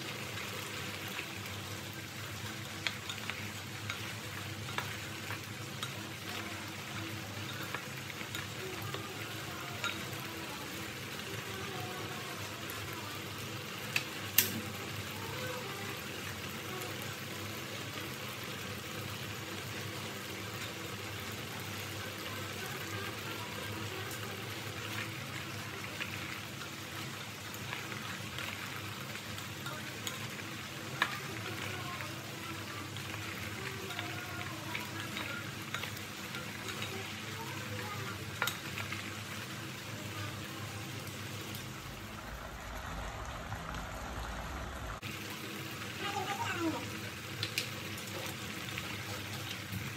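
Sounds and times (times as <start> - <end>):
syrup bubbling in pot: 0.0 - 49.9.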